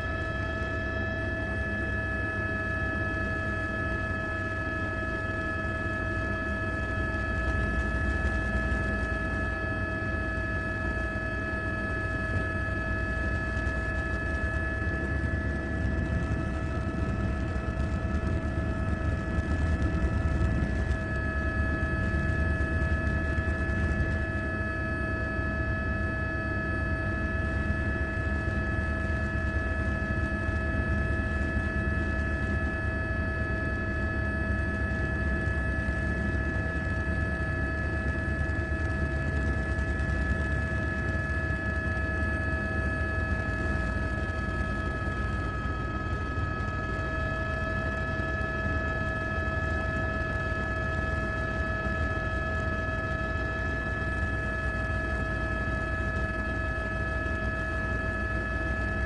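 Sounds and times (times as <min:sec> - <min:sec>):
helicopter running: 0:00.0 - 0:59.0.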